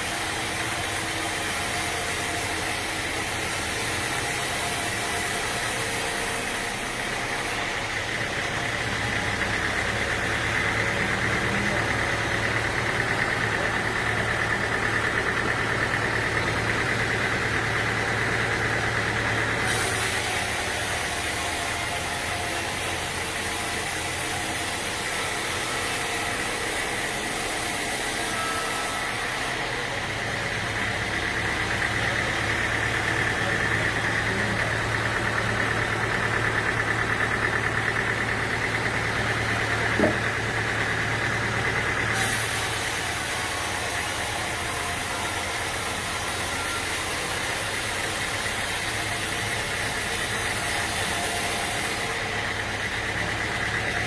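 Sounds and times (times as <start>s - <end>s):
sawmill engine humming: 0.0s - 54.0s.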